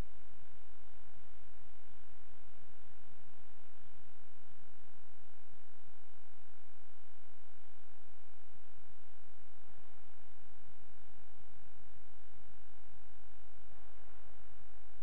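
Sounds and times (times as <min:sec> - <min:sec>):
electrical mains hum: 0:00.0 - 0:15.0
thin high whine: 0:00.0 - 0:15.0.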